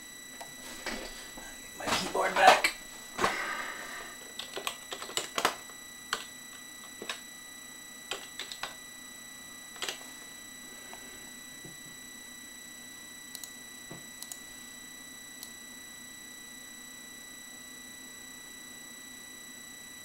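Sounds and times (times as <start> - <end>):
faint high-pitched whine: 0.0 - 20.0.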